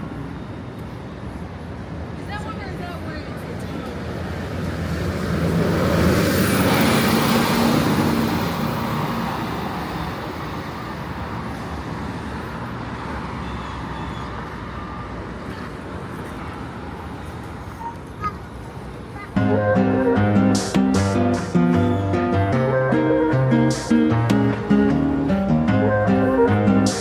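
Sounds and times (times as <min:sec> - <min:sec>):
road traffic hum: 0:00.0 - 0:27.0
vehicle passing by: 0:03.4 - 0:27.0.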